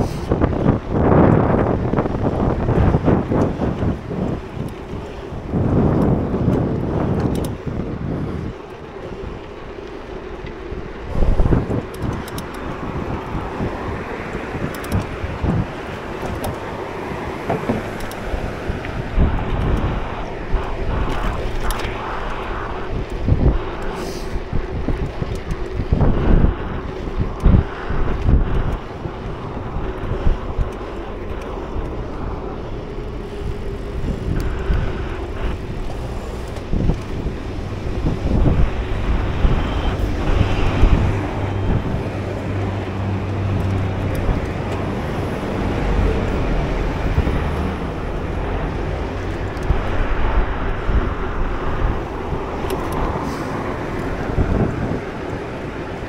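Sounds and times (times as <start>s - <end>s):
road traffic noise: 0.0s - 56.0s
wind buffeting microphone: 0.0s - 56.0s.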